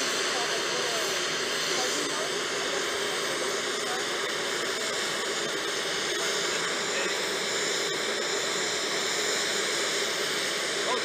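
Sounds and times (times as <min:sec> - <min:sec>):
aircraft turbine hissing and whining: 0:00.0 - 0:11.0.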